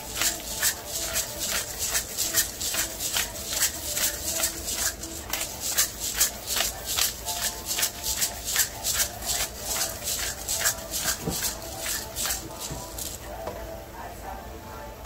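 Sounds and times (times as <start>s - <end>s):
seasoning shaker rattling: 0.0s - 13.2s.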